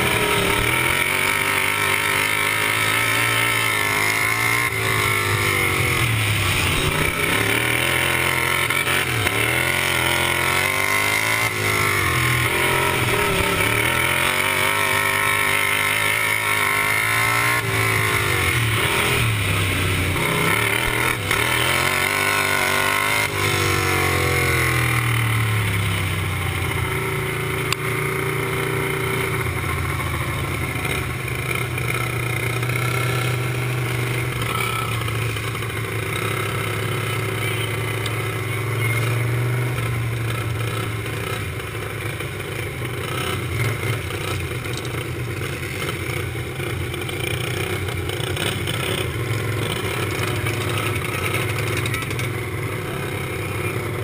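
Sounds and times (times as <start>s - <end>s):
lawn mower engine revving: 0.0s - 54.0s.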